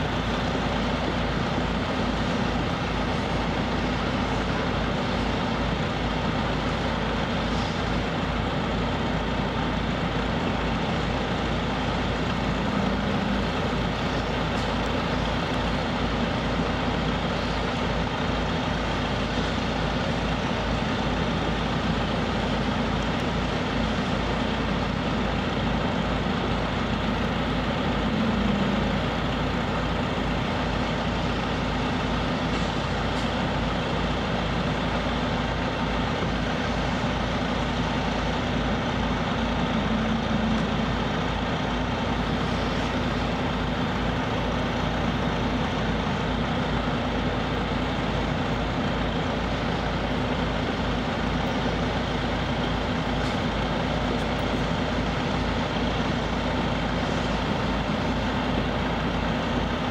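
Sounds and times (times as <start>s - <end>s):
heavy engine idling: 0.0s - 59.9s.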